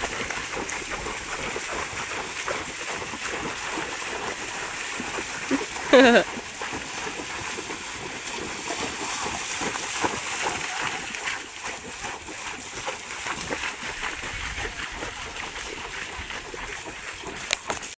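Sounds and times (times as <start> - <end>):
hooves splashing through water: 0.0 - 18.0.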